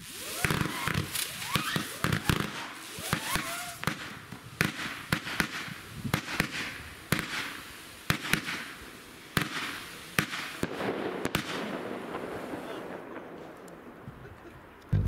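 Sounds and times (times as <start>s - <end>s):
hissing fizz of firework stars: 0.0s - 14.8s
firework shots: 0.0s - 15.0s.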